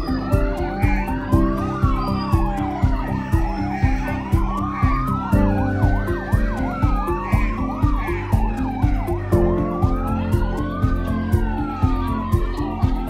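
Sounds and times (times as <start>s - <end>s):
music with thumping beat: 0.0s - 13.0s
siren wailing and yelping: 0.0s - 13.0s.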